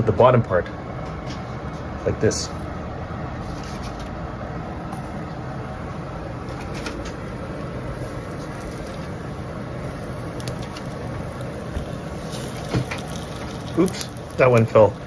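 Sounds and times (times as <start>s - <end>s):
dumplings set in frying pan: 2.5s - 15.0s.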